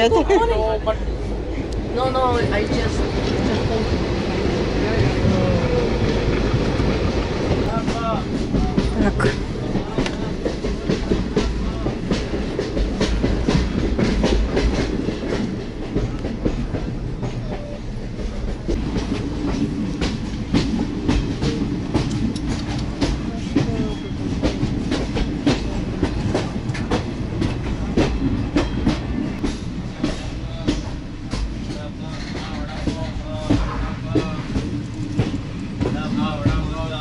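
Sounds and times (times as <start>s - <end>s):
train carriage rumbling on track: 0.0s - 37.0s
train wheel clacks: 1.7s - 37.0s.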